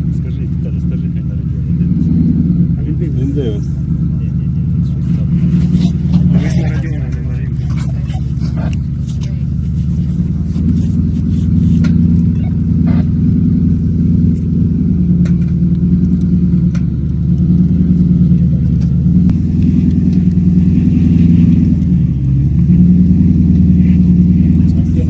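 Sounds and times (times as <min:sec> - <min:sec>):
engine rumbling at low revs: 0:00.0 - 0:25.0.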